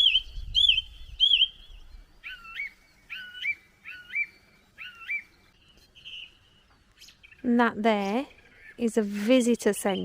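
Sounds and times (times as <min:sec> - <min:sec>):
bird calling: 0:00.0 - 0:10.0.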